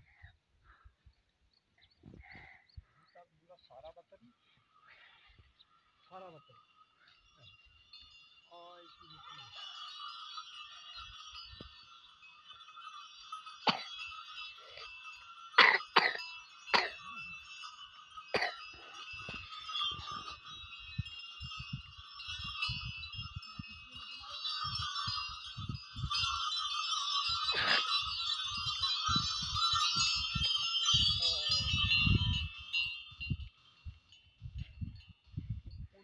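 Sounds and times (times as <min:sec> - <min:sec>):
bullock bells jingling: 0:01.6 - 0:36.0.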